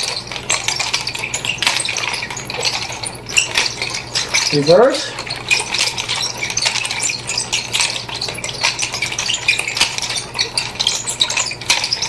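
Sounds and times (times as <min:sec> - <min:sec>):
nunchaku clicking and clinking: 0:00.0 - 0:12.0
steady low hum: 0:00.0 - 0:12.0.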